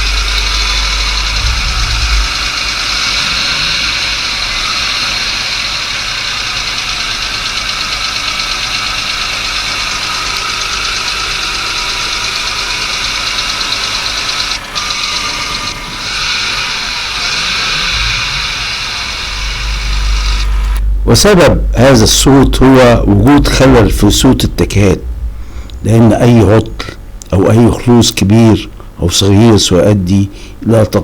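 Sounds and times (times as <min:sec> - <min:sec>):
diesel engine running: 0:00.0 - 0:27.3.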